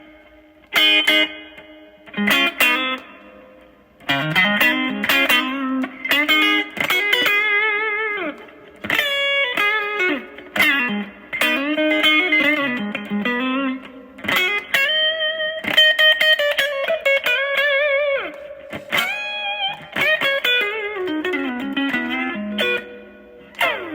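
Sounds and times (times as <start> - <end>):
electric guitar lead phrases: 0.0 - 23.9.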